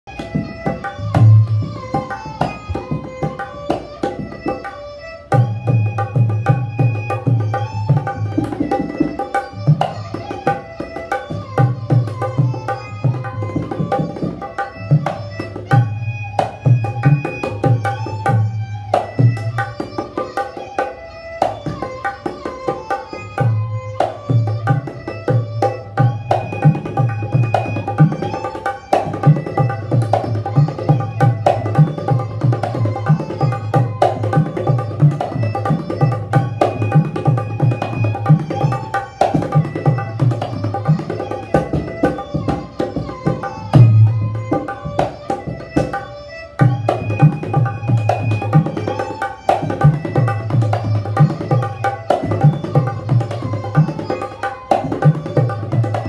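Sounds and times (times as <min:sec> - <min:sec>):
barrel drum played by hand: 0:05.3 - 0:22.9, 0:24.0 - 0:46.0, 0:46.6 - 0:56.0.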